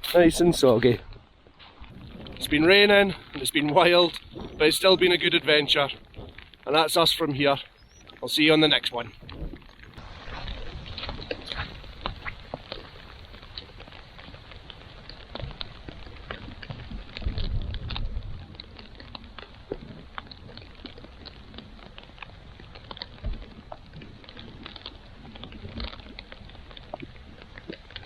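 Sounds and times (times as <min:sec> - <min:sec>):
rain pattering: 0:00.0 - 0:28.0
sharp water drips: 0:00.0 - 0:28.0
wind buffeting microphone: 0:00.0 - 0:28.0.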